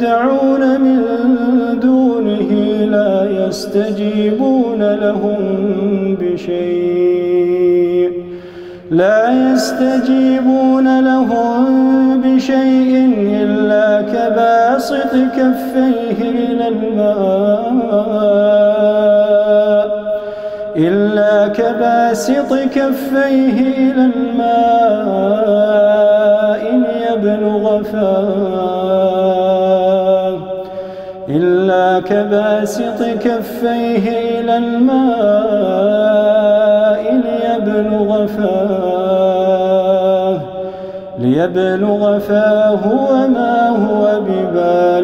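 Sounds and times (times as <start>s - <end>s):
man chanting melodically: 0.0s - 45.0s.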